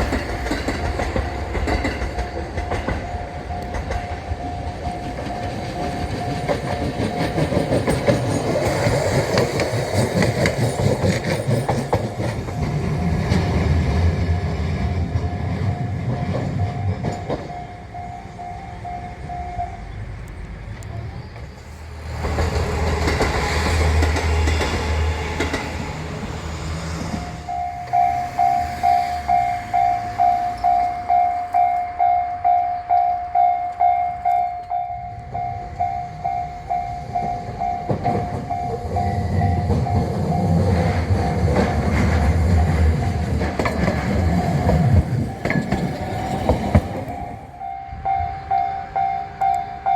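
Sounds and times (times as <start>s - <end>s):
level crossing warning bell: 0.0s - 21.0s, 27.1s - 49.9s
train rumbling past: 0.0s - 49.9s.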